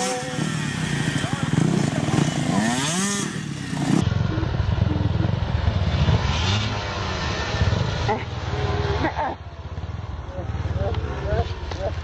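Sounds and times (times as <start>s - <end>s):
engine revving: 0.0s - 12.0s
motocross bike engines idling: 0.0s - 12.0s.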